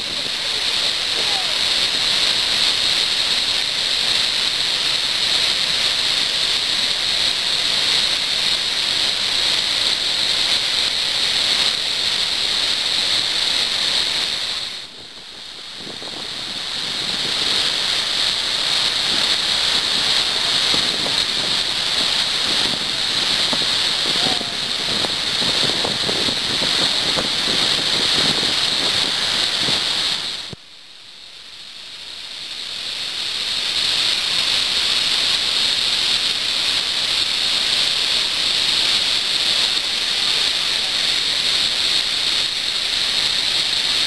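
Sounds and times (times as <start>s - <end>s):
water rushing from dam spillway: 0.0s - 44.0s.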